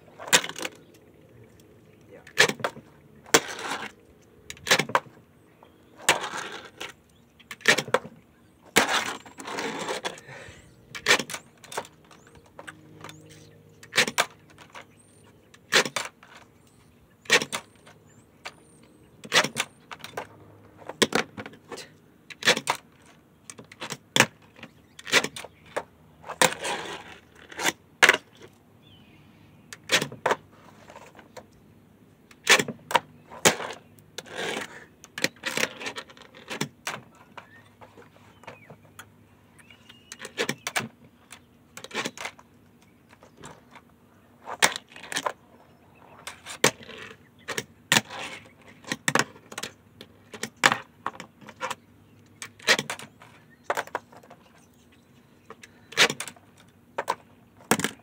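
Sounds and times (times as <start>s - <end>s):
small wheels rolling: 2.4s - 16.6s, 17.2s - 28.5s, 32.3s - 39.0s, 39.6s - 54.9s.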